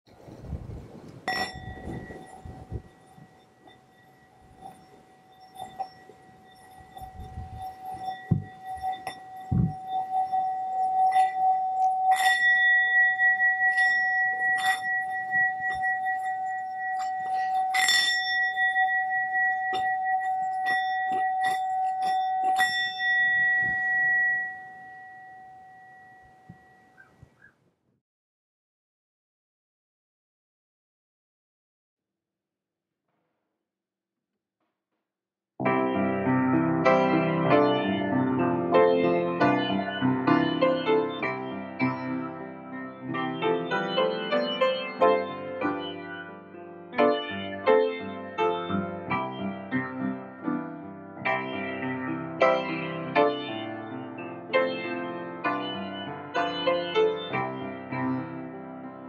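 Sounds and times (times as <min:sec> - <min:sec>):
singing bowl ringing: 0:01.2 - 0:27.2, 0:36.8 - 0:58.4.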